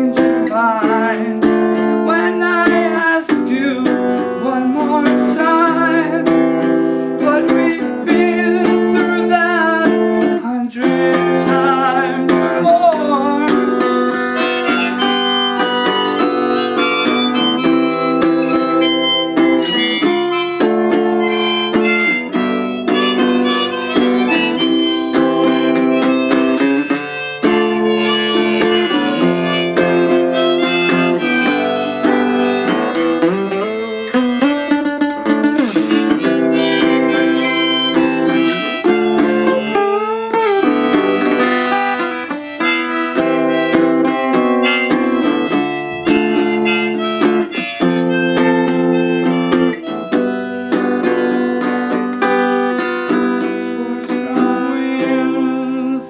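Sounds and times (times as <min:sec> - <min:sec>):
harmonica playing: 0:00.0 - 0:56.0
strummed acoustic guitar: 0:00.0 - 0:56.0.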